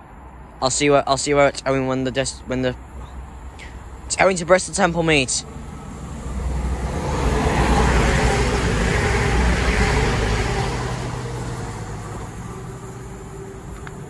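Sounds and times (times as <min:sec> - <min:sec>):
train passing at speed: 0:00.1 - 0:14.0.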